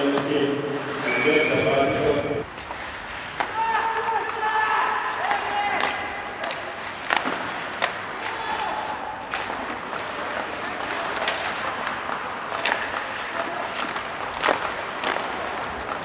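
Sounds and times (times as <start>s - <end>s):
hockey sticks clacking: 0.0s - 1.5s, 2.5s - 16.0s
crowd and rink noise: 0.0s - 16.0s.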